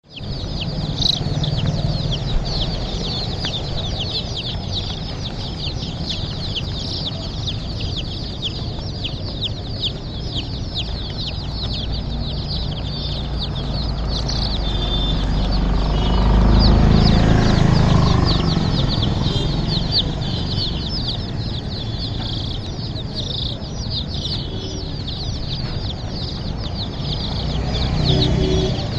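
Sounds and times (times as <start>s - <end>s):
baby chicks peeping: 0.0s - 28.9s.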